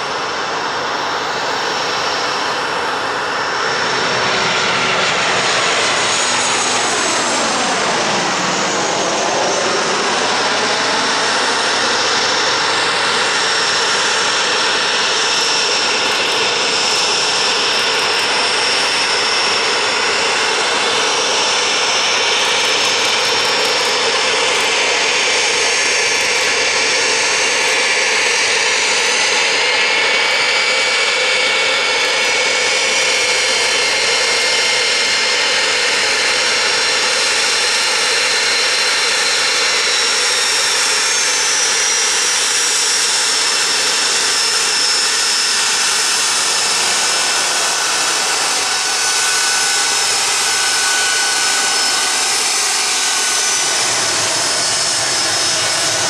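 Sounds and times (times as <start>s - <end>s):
jet engines roaring and whining: 0.0s - 56.0s.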